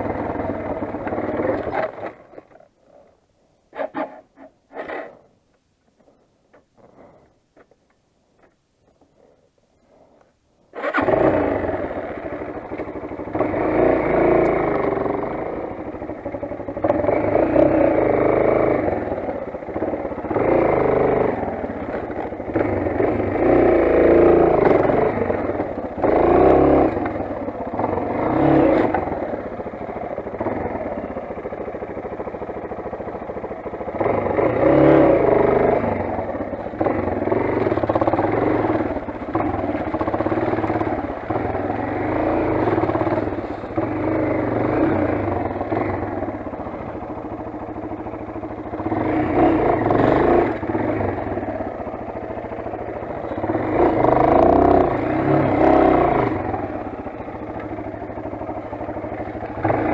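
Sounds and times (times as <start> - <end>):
motorcycle engine revving: 0.0 - 2.6, 10.7 - 59.9.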